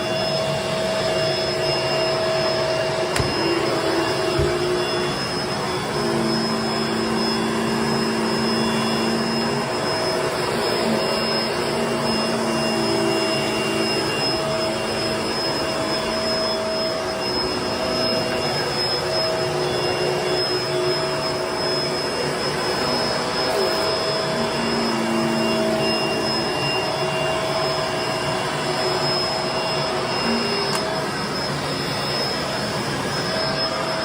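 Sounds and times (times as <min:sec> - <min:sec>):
vacuum cleaner on carpet: 0:00.0 - 0:34.0.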